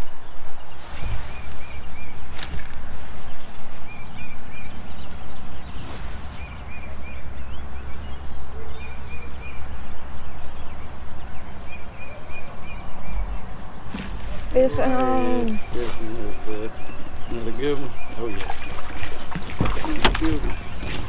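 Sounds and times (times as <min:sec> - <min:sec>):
songbird singing: 0:00.0 - 0:21.0
wind rumble on microphone: 0:00.0 - 0:21.0.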